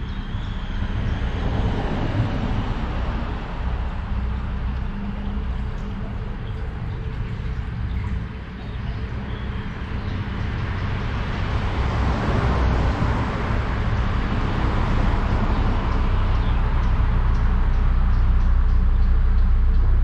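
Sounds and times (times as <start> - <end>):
boat diesel engine throbbing: 0.0 - 20.0.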